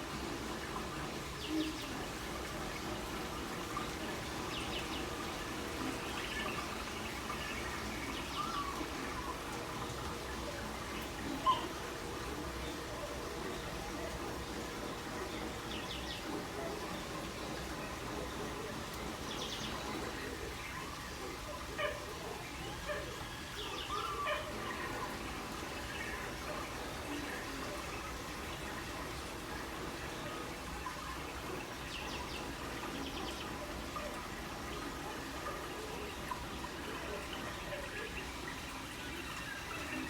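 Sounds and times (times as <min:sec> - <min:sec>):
steady outdoor background noise: 0:00.0 - 0:40.0.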